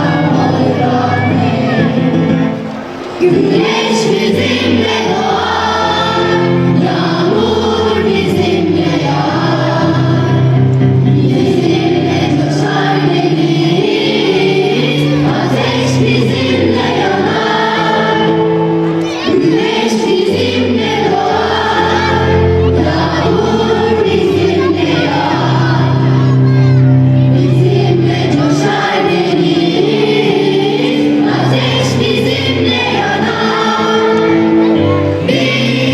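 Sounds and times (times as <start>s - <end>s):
choir singing: 0.0s - 35.9s.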